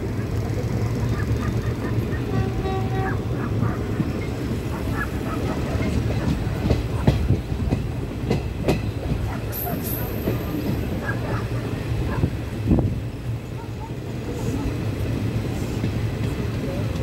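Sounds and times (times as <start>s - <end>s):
train wheels rumbling on rail: 0.0s - 17.0s
wheels clacking over rail joints: 0.0s - 17.0s.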